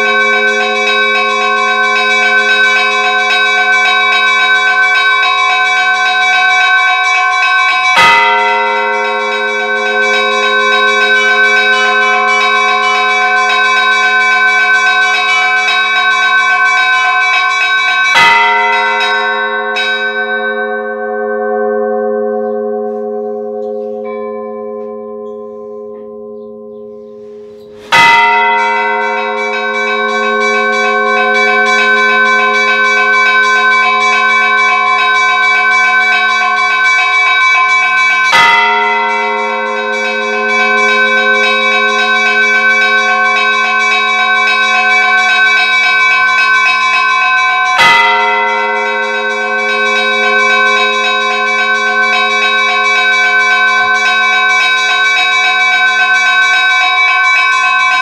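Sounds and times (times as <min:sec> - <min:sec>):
heavy bell stroke: 0:00.0 - 0:16.6, 0:17.3 - 0:57.9
church bells pealing: 0:00.0 - 0:58.0.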